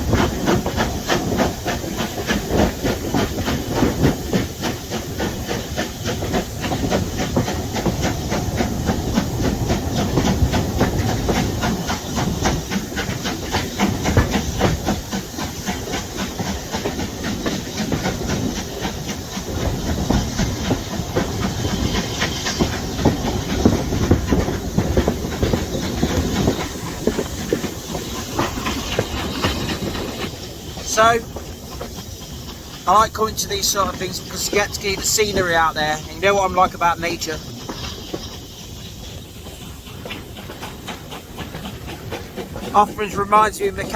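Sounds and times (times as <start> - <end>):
rhythmic train beats: 0.0 - 43.9
steam train rushing hiss: 0.0 - 43.9.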